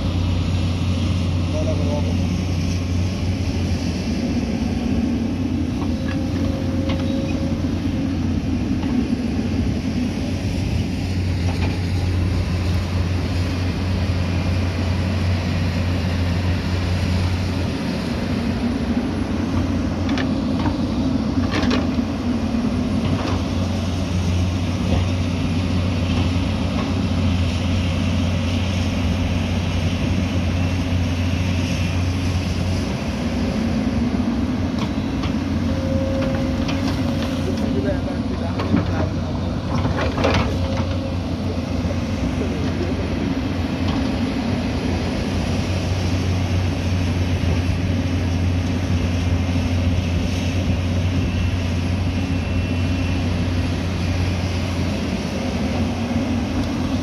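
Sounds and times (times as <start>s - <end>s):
diesel engines under load: 0.0s - 57.0s.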